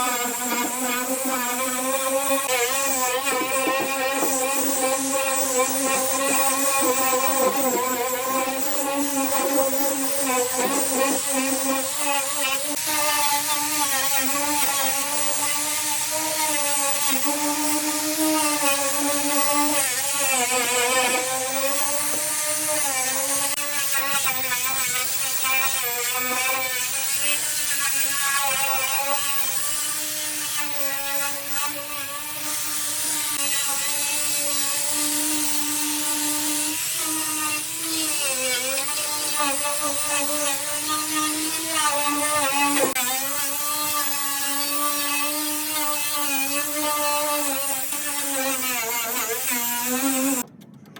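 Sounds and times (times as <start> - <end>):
electric power tool whining: 0.0 - 50.9.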